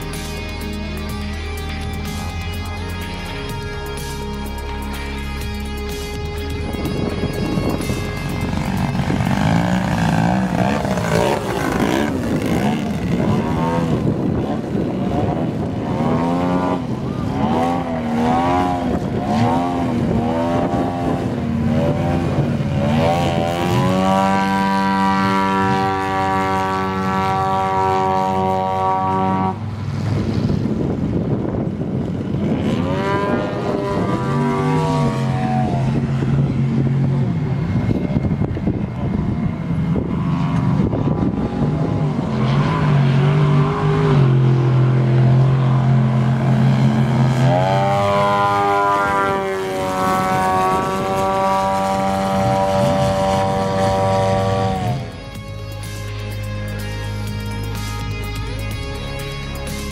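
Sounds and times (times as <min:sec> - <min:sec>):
model airplane engine: 0:06.5 - 0:58.8.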